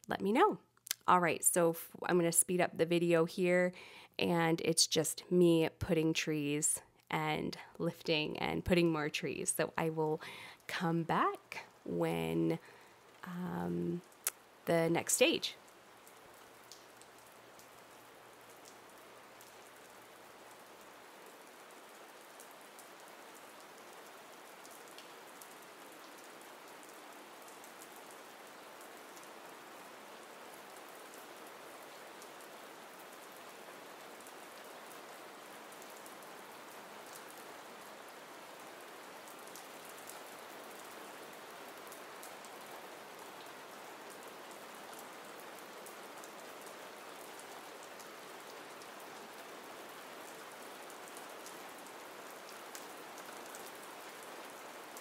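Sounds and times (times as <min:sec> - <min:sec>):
soft rain with ticking drops: 0:00.0 - 0:55.0.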